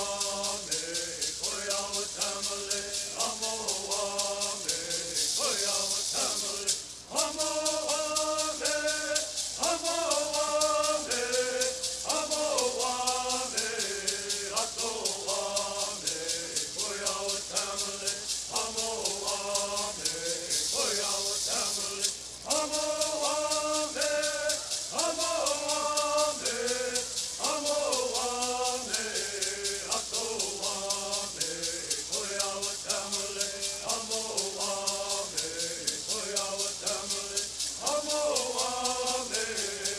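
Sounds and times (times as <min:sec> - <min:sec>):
gourd rattles shaken: 0:00.0 - 0:39.9
voices singing together: 0:00.0 - 0:39.9.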